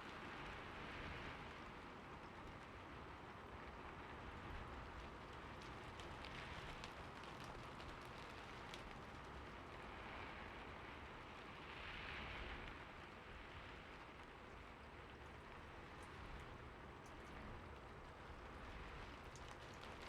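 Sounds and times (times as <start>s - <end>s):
soft steady rain: 0.0s - 20.0s.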